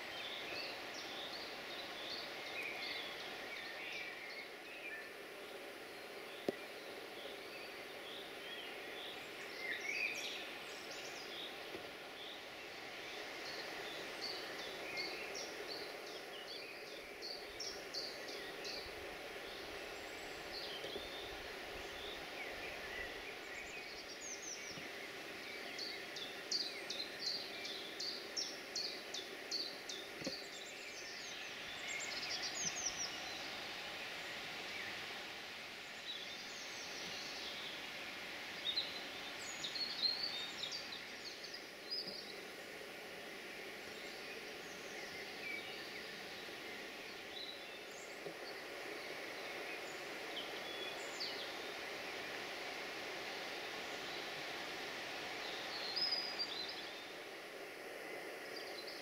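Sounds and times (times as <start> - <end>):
low background rush: 0.0 - 59.0
songbirds singing and chirping: 0.0 - 59.0.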